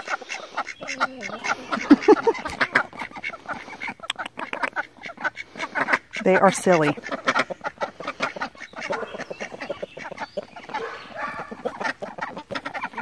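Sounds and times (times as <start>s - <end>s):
hens and rooster clucking: 0.0s - 13.0s.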